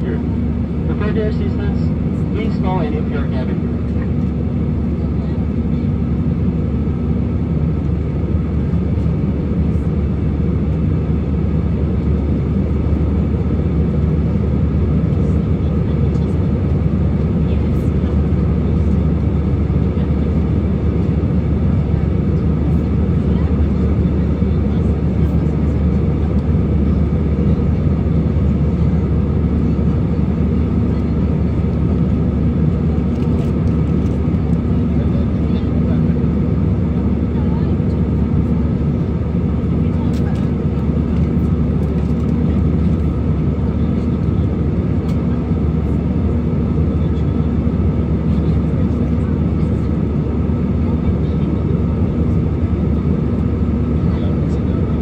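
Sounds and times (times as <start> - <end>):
low steady hum: 0.0 - 47.7
airliner cabin noise: 0.0 - 55.0.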